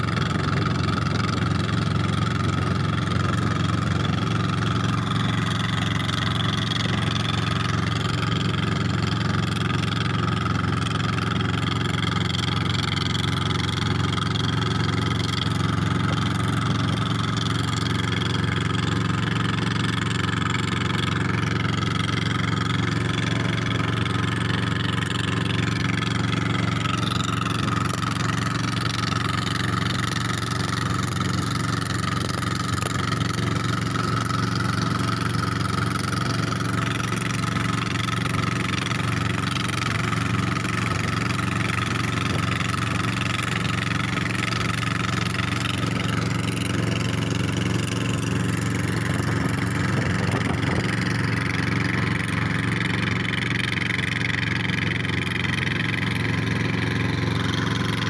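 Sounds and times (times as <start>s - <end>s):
boat diesel engine running: 0.0s - 58.0s.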